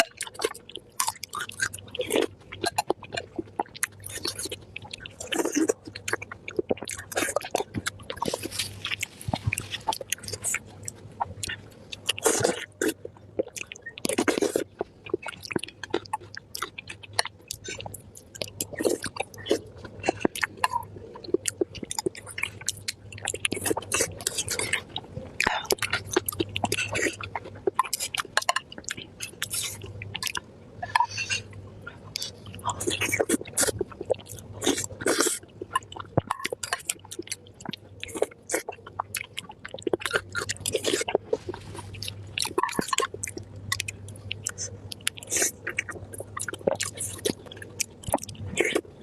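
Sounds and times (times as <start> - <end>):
person chewing wetly: 0.0 - 49.0.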